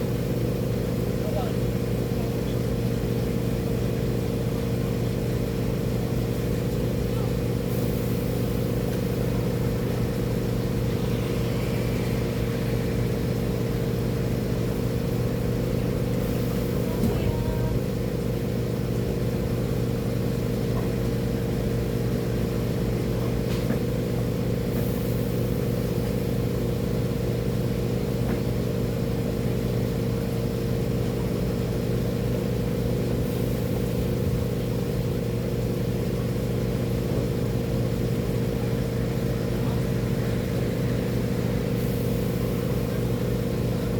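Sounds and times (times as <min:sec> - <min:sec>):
engine droning: 0:00.0 - 0:43.9.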